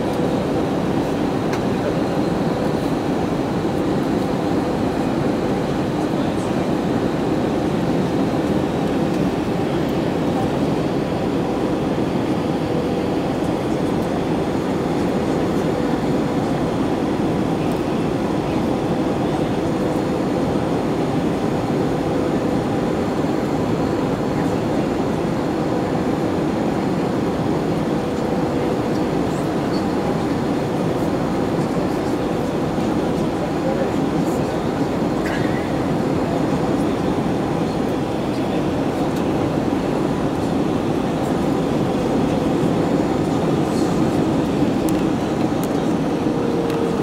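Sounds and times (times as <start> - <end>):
engine and airflow rush: 0.0 - 47.0.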